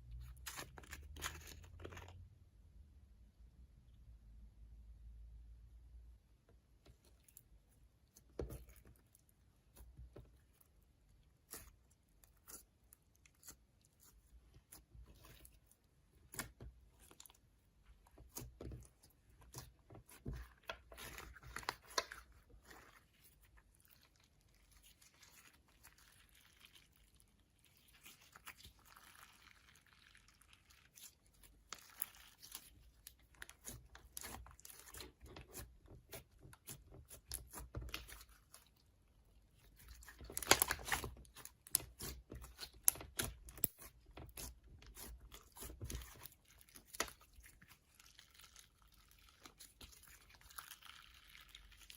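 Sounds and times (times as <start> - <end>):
slime squeezed and stretched: 8.1 - 51.9.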